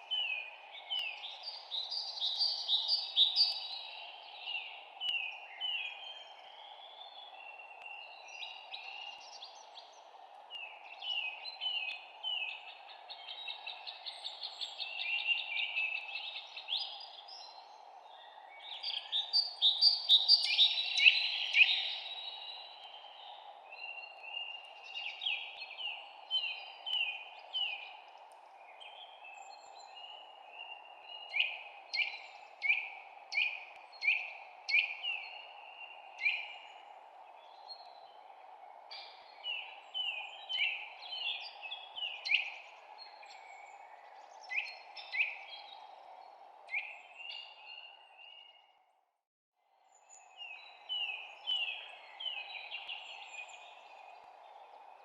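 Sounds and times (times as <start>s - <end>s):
small birds chirping: 0.0s - 48.7s.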